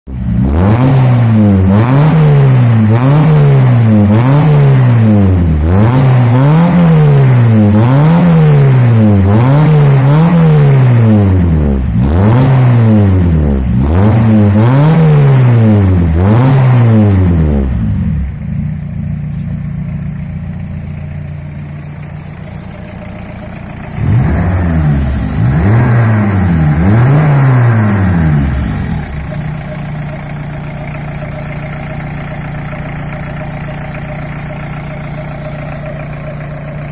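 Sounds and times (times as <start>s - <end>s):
diesel engine revving: 0.1s - 36.9s.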